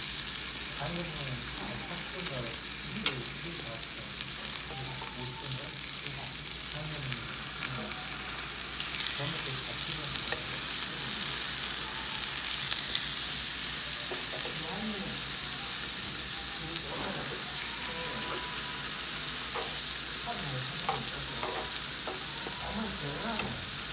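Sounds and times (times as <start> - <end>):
meat sizzling on grill pan: 0.0 - 23.9.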